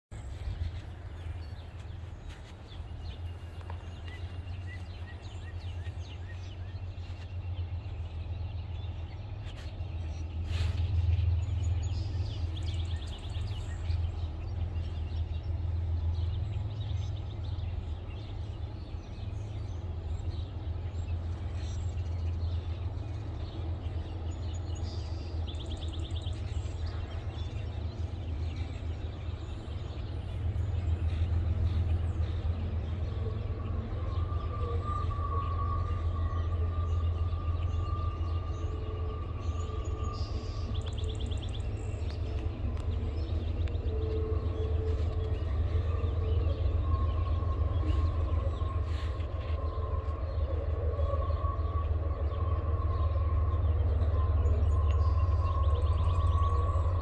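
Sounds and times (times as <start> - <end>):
low rumble: 0.1 - 57.0
birds chirping and trilling: 0.2 - 57.0.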